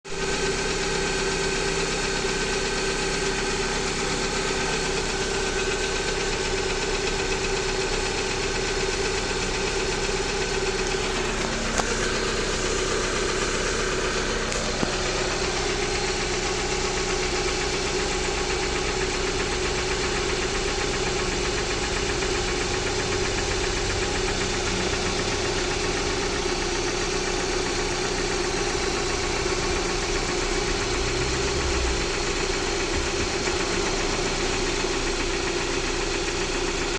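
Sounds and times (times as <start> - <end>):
car engine idling with knock: 0.2 - 36.9.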